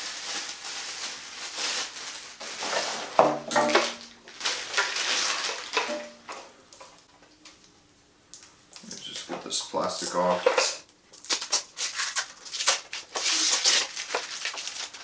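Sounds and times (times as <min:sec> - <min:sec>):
plastic bags crinkling: 0:00.0 - 0:07.1, 0:08.4 - 0:15.0.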